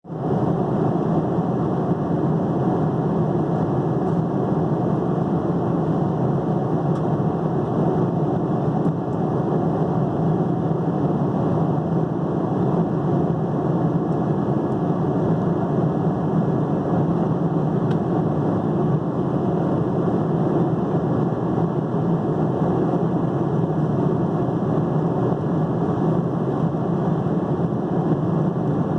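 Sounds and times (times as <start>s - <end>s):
airliner cabin engine and airflow rush: 0.0s - 28.9s.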